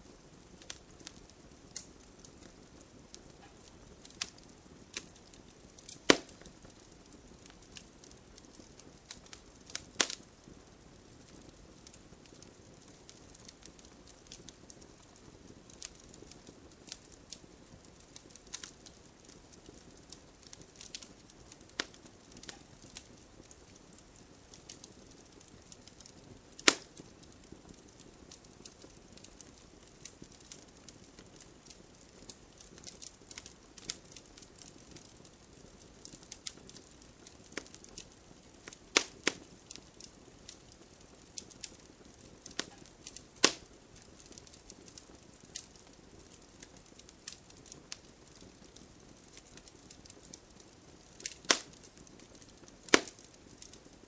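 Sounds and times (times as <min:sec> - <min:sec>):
bonfire crackling: 0:00.0 - 0:54.0
faint steady hiss: 0:00.0 - 0:54.0.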